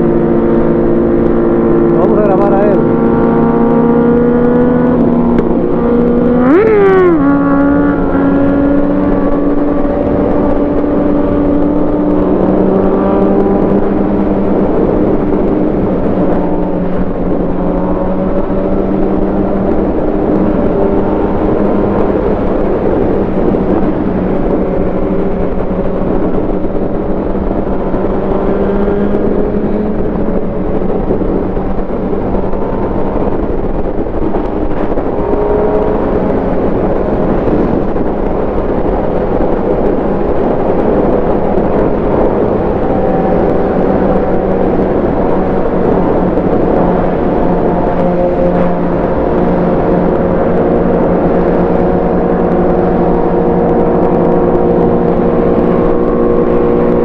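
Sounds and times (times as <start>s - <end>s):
motorcycle engine cruising: 0.0s - 57.0s
wind rush: 0.0s - 57.0s.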